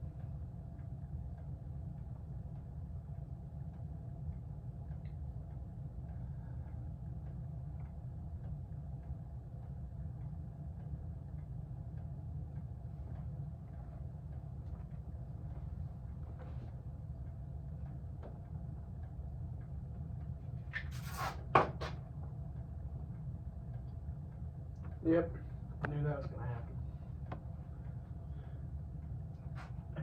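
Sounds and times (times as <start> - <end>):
ceiling fan motor humming: 0.0 - 30.0.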